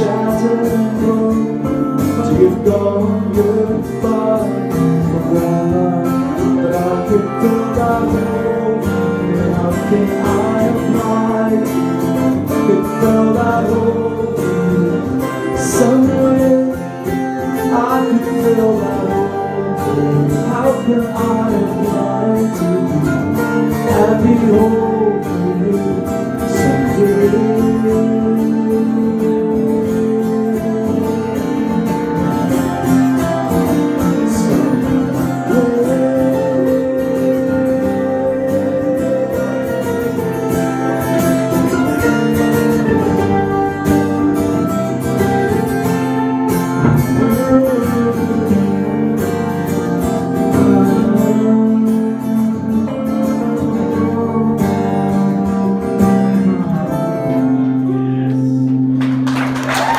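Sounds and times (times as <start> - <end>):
acoustic guitar strumming: 0.0 - 59.9
electric guitar bending notes: 0.0 - 59.9.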